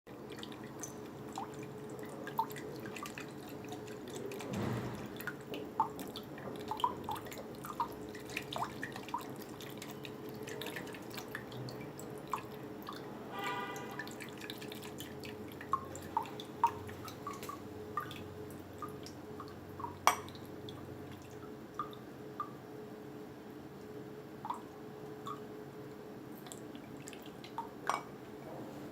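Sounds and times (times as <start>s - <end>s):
water dripping: 0.1s - 22.7s, 23.8s - 28.2s.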